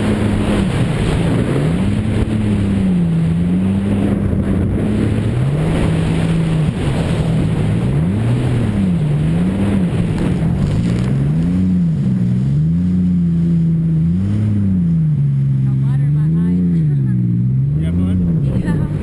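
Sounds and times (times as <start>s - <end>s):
jet ski engine revving: 0.0s - 19.0s
steady rushing noise: 0.0s - 19.0s.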